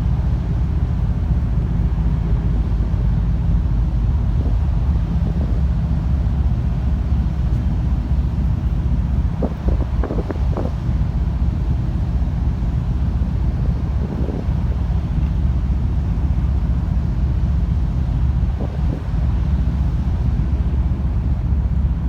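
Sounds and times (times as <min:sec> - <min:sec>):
ship running noise: 0:00.0 - 0:22.0
wind buffeting microphone: 0:00.0 - 0:22.0.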